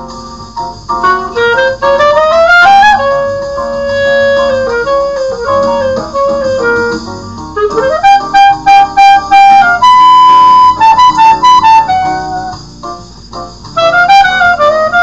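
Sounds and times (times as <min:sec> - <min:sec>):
clarinet playing jazz melody: 0:00.0 - 0:15.0
musical accompaniment: 0:00.0 - 0:15.0.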